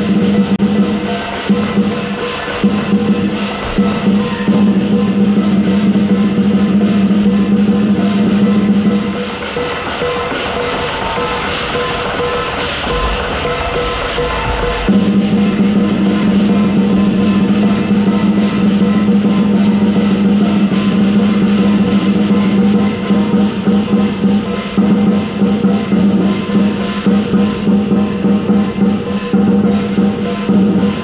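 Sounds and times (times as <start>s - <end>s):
big drum rolling: 0.0s - 31.0s
percussion: 0.0s - 31.0s.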